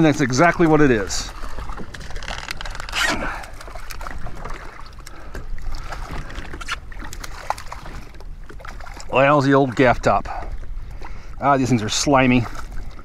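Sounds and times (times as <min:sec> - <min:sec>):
fish splashing and thrashing: 0:00.0 - 0:13.0.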